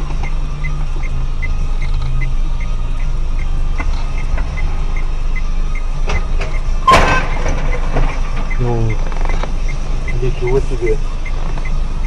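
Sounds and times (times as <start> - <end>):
light high ticking: 0.0 - 6.8, 7.7 - 12.0
car engine and road noise: 0.0 - 12.0.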